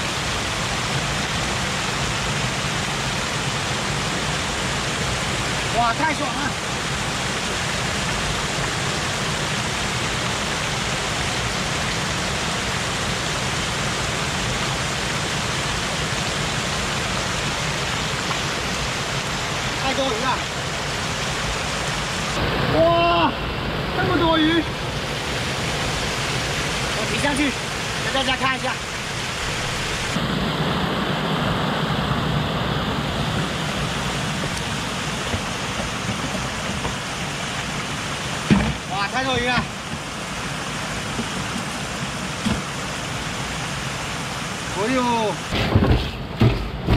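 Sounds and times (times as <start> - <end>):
waterfall rushing over a weir: 0.0 - 46.9.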